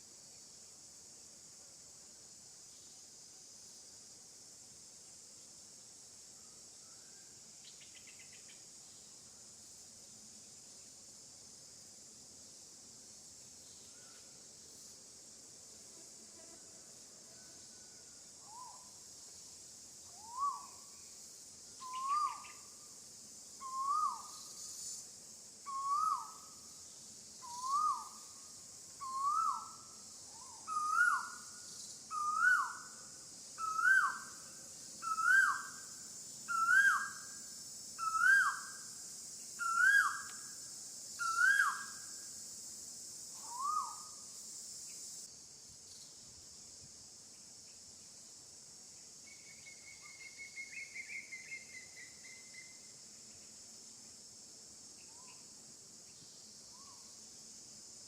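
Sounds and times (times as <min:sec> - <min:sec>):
high insect buzz: 0:00.0 - 0:58.0.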